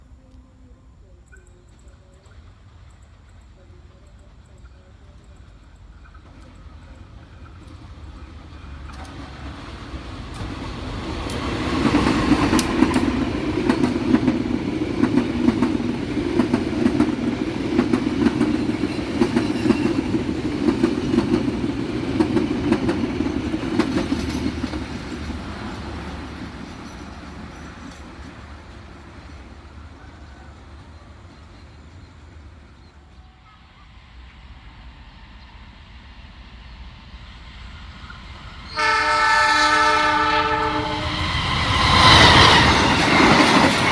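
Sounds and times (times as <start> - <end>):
train passing with wheel clatter: 1.2 - 43.9.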